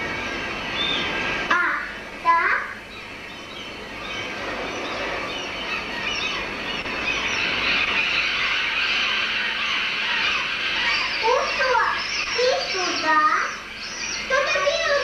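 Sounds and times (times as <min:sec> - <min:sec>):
flock of birds squawking: 0:00.0 - 0:15.0.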